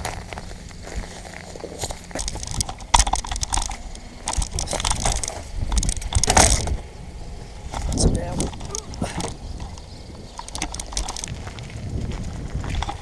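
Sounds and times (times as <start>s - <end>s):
gravel crunching: 0.0s - 13.0s.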